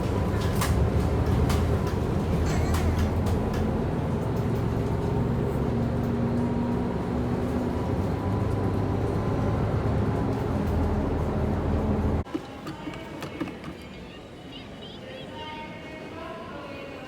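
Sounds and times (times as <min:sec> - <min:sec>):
bus engine and road rumble: 0:00.0 - 0:13.8.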